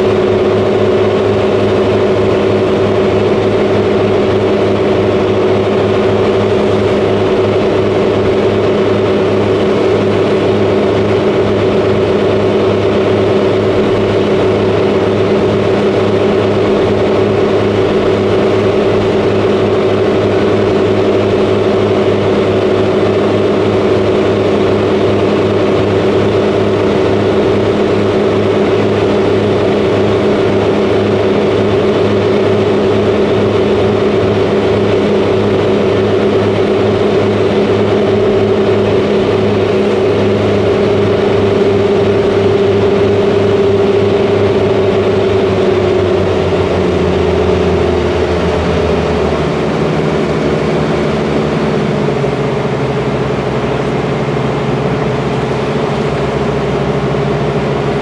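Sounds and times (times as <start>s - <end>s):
ferry engine running: 0.0s - 58.0s.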